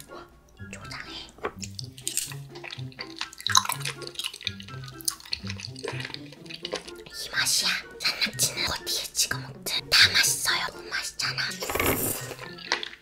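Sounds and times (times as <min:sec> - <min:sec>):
soft background music with bass: 0:00.0 - 0:13.0
wet chewing: 0:00.9 - 0:09.9, 0:10.7 - 0:13.0.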